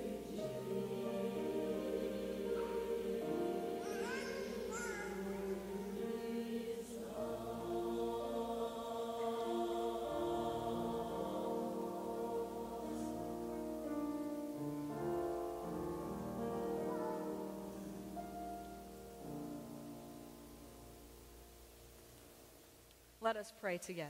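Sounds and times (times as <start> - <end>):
church choir singing: 0.0 - 21.0.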